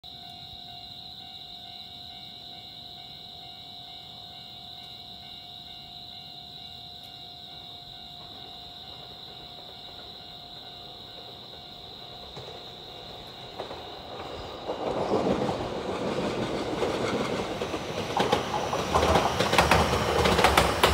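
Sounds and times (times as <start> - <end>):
approaching train: 0.0 - 20.9.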